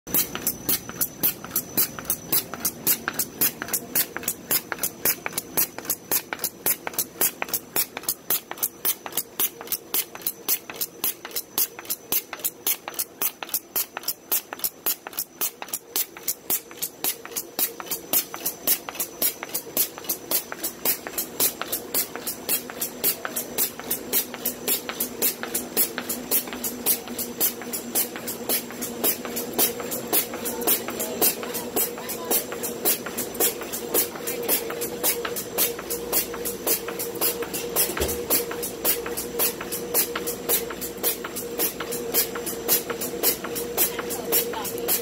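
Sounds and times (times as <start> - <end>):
sharp machine clicks: 0.1 - 45.0
steady machine hum: 0.1 - 45.0.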